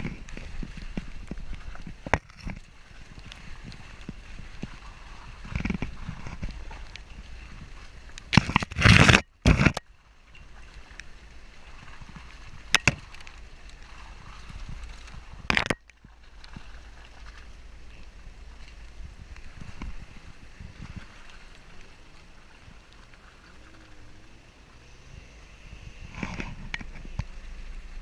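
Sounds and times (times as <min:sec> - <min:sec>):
crackling of dirt track: 0:00.0 - 0:28.0
vehicle engine and tyres rumbling: 0:00.0 - 0:28.0.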